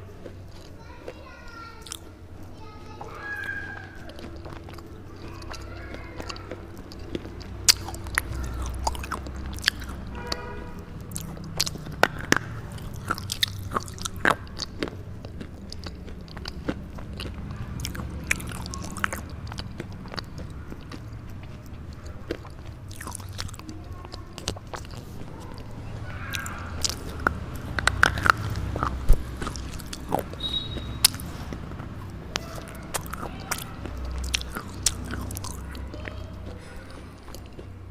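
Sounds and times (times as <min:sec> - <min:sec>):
grinding chewing: 0:00.0 - 0:37.9
sharp crunches of biting: 0:01.8 - 0:02.1, 0:03.3 - 0:37.9.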